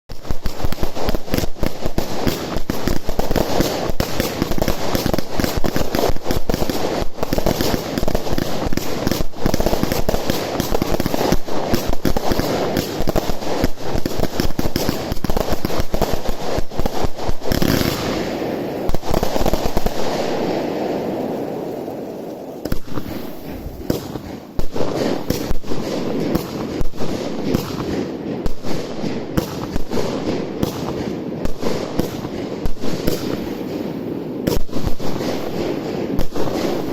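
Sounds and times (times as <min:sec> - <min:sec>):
firework launch thumps and bursts: 0:00.1 - 0:20.6, 0:22.6 - 0:33.8
firework crackle: 0:00.1 - 0:36.9.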